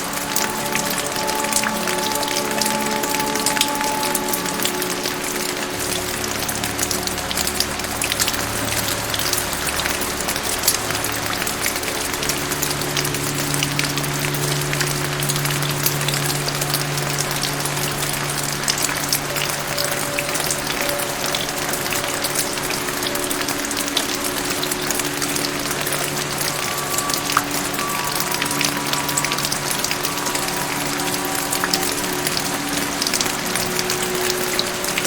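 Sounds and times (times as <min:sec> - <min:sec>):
soft background music: 0:00.0 - 0:35.0
steady rain hiss: 0:00.0 - 0:35.0.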